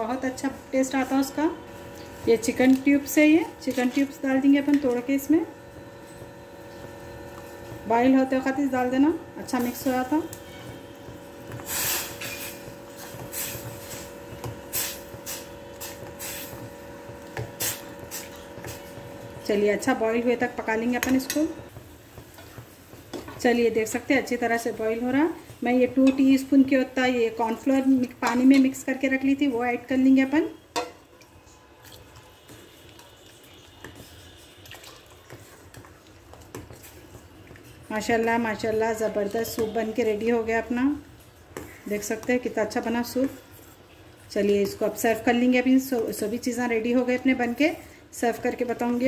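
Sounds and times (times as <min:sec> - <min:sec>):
soup boiling and bubbling: 0:00.1 - 0:49.0.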